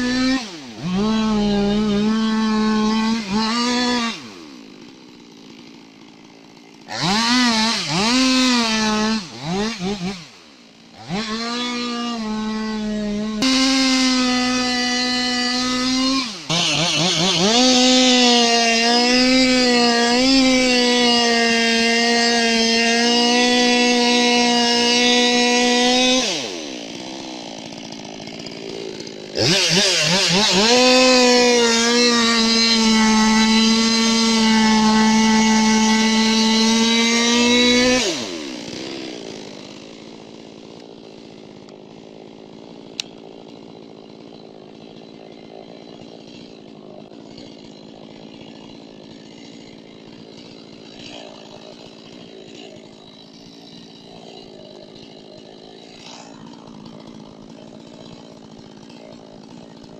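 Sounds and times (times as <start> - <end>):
chainsaw running: 0.0 - 59.9.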